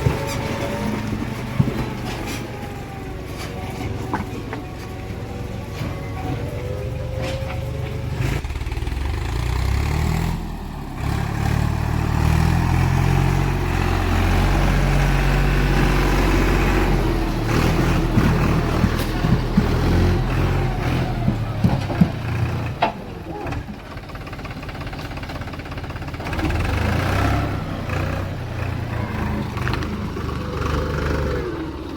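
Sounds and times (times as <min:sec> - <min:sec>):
heavy diesel engine revving: 0:00.0 - 0:31.9.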